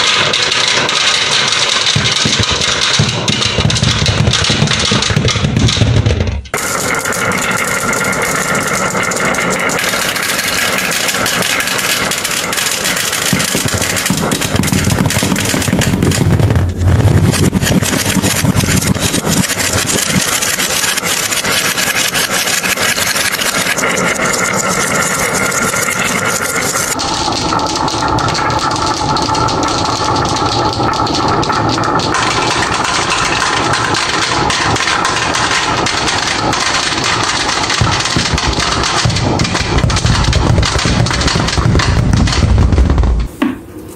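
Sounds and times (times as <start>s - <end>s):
marbles rolling and clattering: 0.0s - 43.3s.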